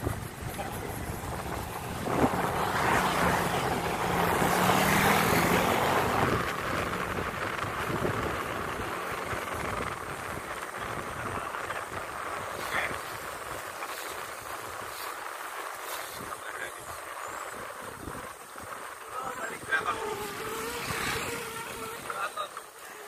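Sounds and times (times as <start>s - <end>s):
wind rushing over microphone: 0.0s - 22.4s
road noise: 0.0s - 23.0s.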